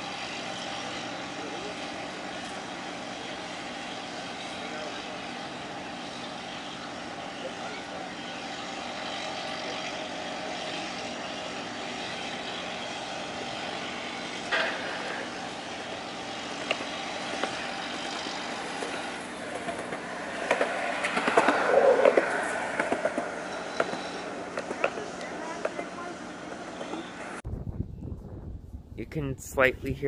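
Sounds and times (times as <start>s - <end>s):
diesel engine hum: 0.0s - 30.0s.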